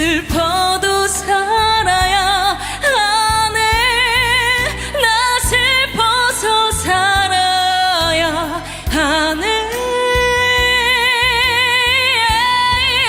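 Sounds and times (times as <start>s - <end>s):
woman singing a slow ballad: 0.0s - 13.0s.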